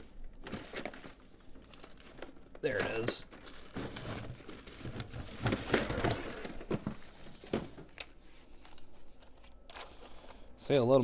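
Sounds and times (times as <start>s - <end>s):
rustling and crinkling packaging: 0.0s - 10.7s.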